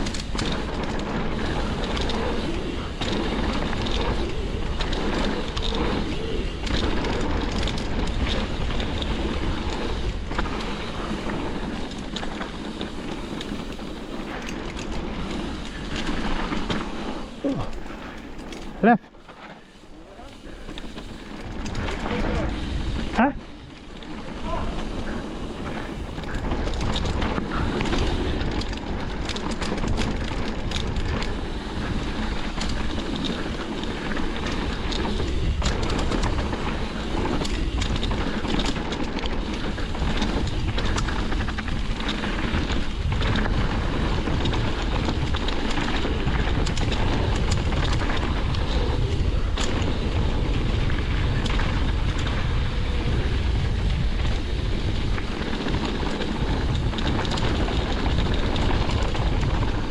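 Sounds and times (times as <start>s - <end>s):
bike rattles and knocks: 0.0s - 59.9s
bike tyre noise: 0.0s - 59.9s
wind rush on microphone: 0.0s - 59.9s.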